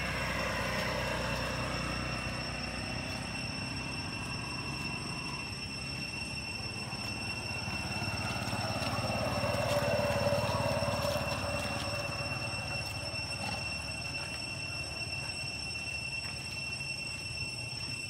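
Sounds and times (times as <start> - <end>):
low engine-like rumble: 0.0 - 18.0
thin high whine: 0.0 - 18.0.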